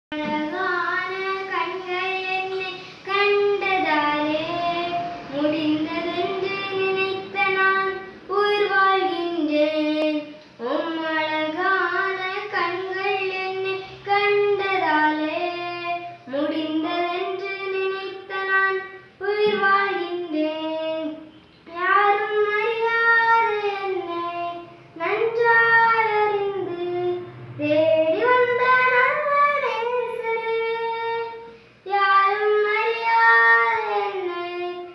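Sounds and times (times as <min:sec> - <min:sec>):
girl singing a hymn: 0:00.1 - 0:34.9.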